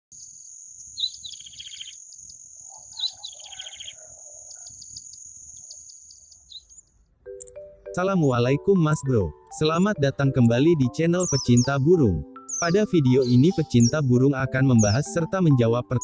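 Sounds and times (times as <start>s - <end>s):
bird singing trills: 0.1s - 16.0s.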